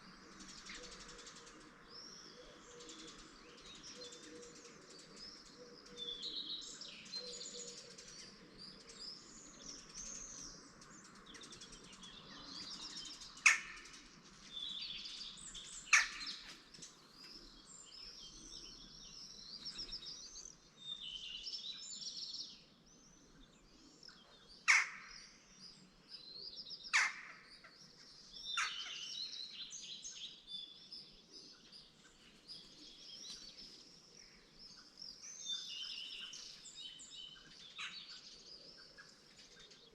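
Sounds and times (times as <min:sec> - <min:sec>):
songbirds twittering and warbling: 0:00.0 - 0:39.9.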